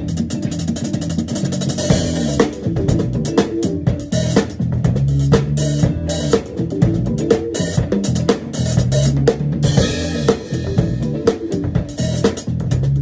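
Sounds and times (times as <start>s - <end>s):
drum kit funk groove: 0.0s - 13.0s.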